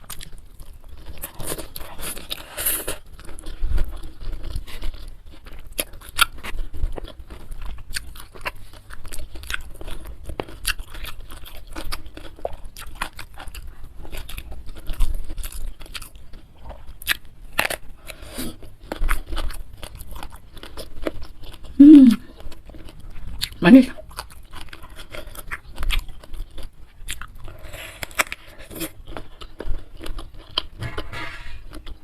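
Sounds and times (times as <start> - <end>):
person chewing crunchy food: 0.0 - 32.0.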